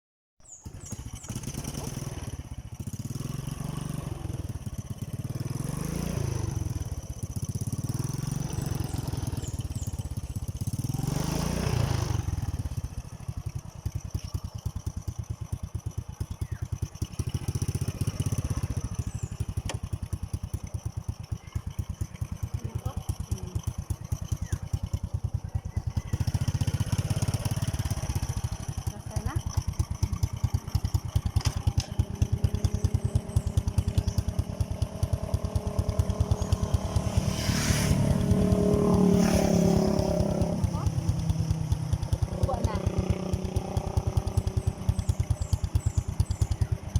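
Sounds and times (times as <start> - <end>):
motorcycle engine revving: 0.4 - 46.9.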